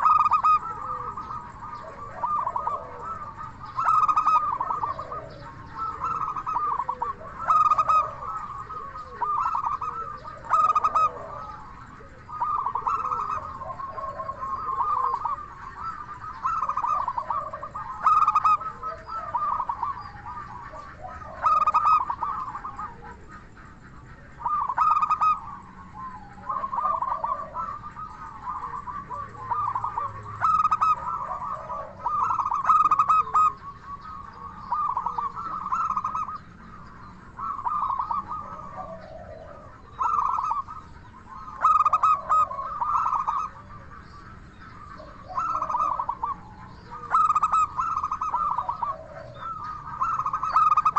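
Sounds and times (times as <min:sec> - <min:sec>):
doves cooing: 0:00.0 - 0:50.9.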